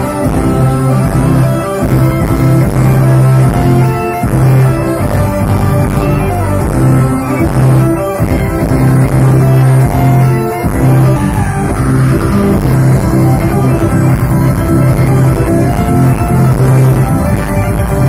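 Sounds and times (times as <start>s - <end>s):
electric guitar: 0.0s - 18.0s
fiddles: 0.0s - 18.0s
pulsing bass line: 0.0s - 18.0s.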